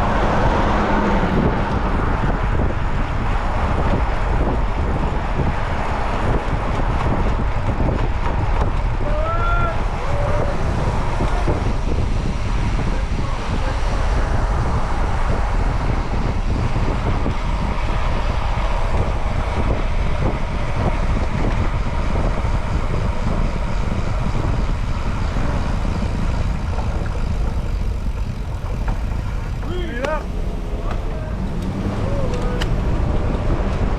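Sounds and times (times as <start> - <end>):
road noise: 0.0 - 33.9
wind buffeting microphone: 0.0 - 33.9.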